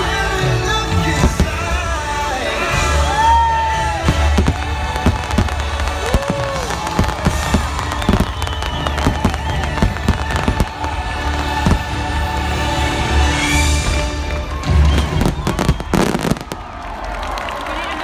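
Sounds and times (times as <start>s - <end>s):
show music over loudspeakers: 0.0s - 16.6s
fireworks bursting with sharp bangs: 0.9s - 12.9s, 13.5s - 16.8s.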